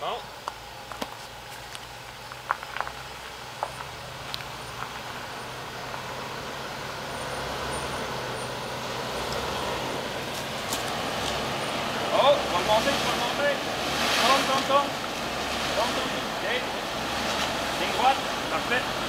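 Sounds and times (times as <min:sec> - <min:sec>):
low engine hum: 0:00.0 - 0:19.0
tyres on gravel: 0:00.0 - 0:19.0.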